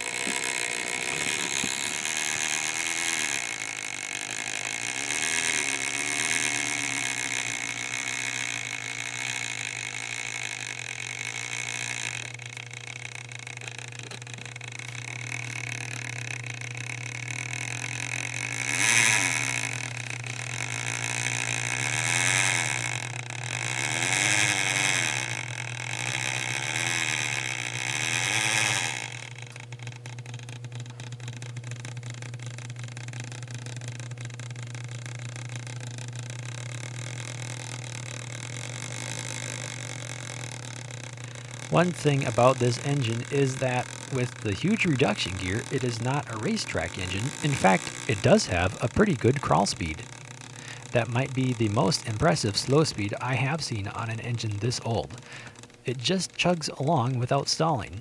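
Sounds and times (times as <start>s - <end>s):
model locomotive motor whirring: 0.0s - 58.0s
steady low hum: 0.0s - 58.0s.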